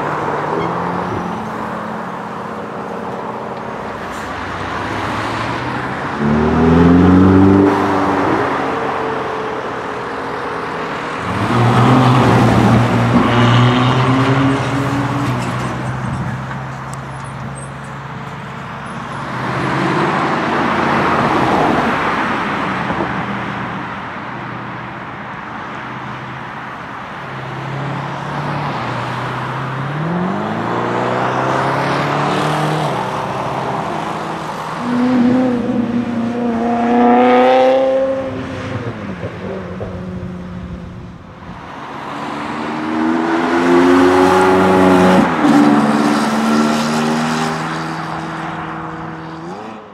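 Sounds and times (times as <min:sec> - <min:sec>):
cars accelerating past: 0:00.0 - 0:17.1, 0:19.0 - 0:23.7, 0:27.2 - 0:49.9.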